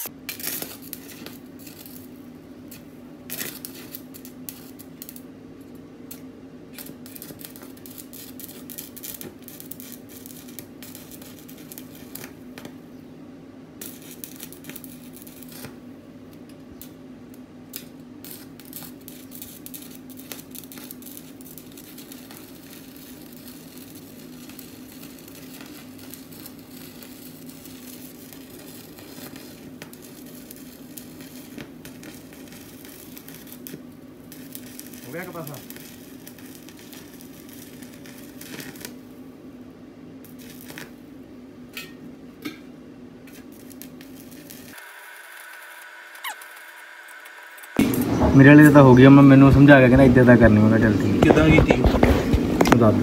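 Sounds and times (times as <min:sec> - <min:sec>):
welding arc crackling: 0:00.0 - 0:12.8, 0:13.8 - 0:39.3, 0:40.2 - 0:41.1, 0:43.2 - 0:53.0.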